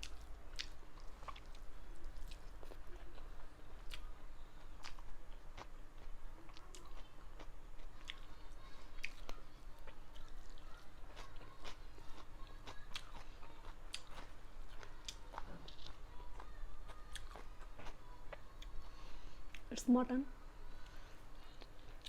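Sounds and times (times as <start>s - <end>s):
person chewing food: 0.0s - 19.6s, 20.7s - 22.0s.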